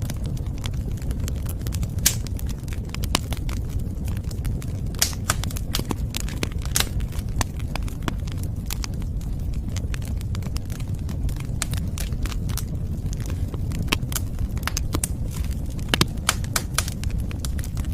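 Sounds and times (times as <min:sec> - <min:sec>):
fire crackling and popping: 0:00.0 - 0:17.9
low rumble of flame: 0:00.0 - 0:17.9.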